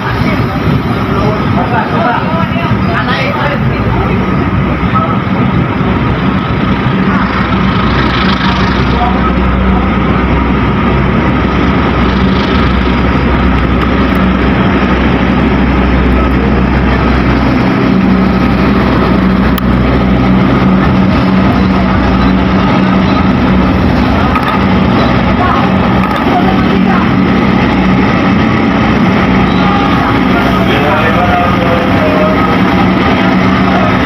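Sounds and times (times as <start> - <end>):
diesel locomotive engine running: 0.0 - 34.0
steady hum: 0.0 - 34.0.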